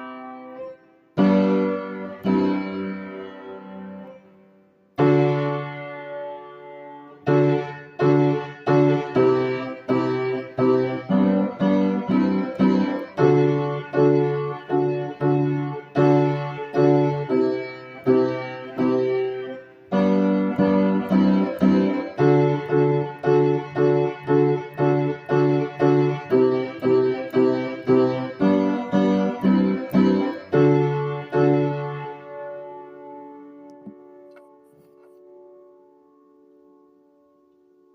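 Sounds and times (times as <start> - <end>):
piano keyboard chords: 0.0 - 37.9.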